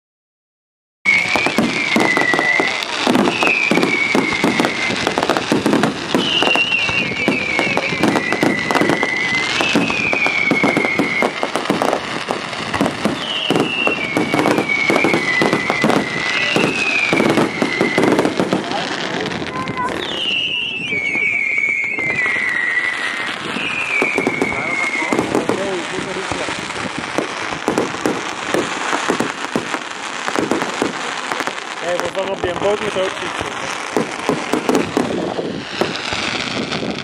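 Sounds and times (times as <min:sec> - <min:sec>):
falling firework whistle: 0:01.1 - 0:37.0
fireworks bangs and crackles: 0:01.1 - 0:37.0.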